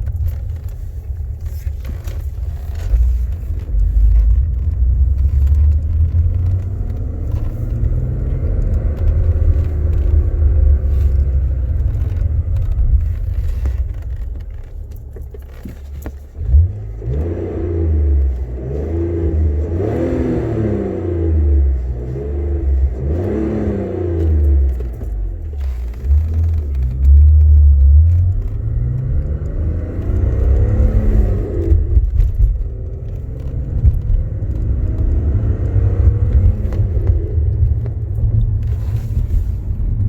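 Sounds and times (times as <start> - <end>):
car engine rumbling: 0.0 - 40.0.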